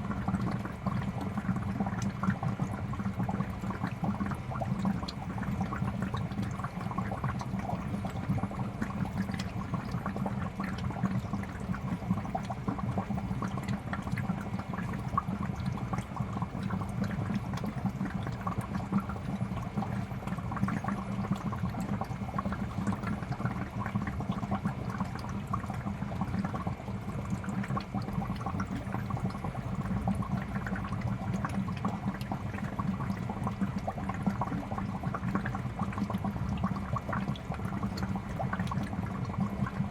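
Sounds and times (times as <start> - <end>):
aquarium bubbles gurgling: 0.0 - 39.9.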